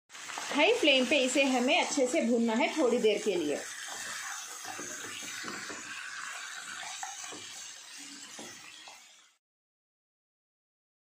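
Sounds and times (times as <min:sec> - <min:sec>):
chicken sizzling in hot oil: 0:00.1 - 0:09.4
spatula scraping a pan: 0:00.1 - 0:09.4.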